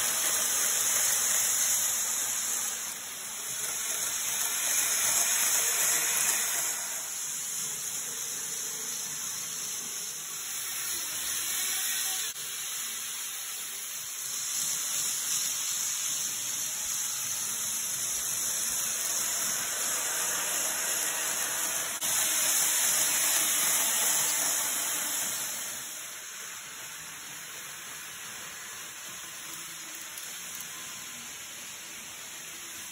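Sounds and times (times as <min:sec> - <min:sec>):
model trains whirring on track: 0:00.0 - 0:32.9.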